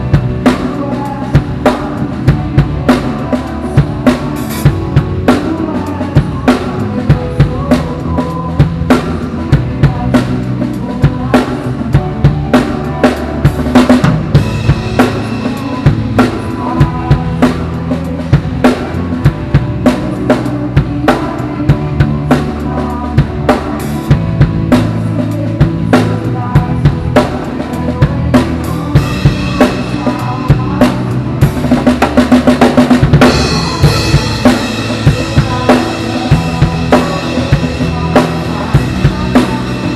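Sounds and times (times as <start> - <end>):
drum kit playing: 0.0 - 39.9
recorded song with bass and keys: 0.0 - 39.9.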